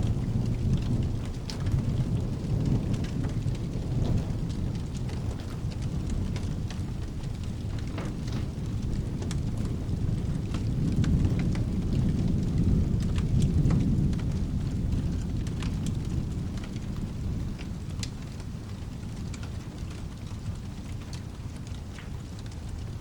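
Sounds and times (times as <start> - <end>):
rolling thunder: 0.0 - 23.0
steady rain: 0.0 - 23.0
sharp crackles: 0.1 - 23.0.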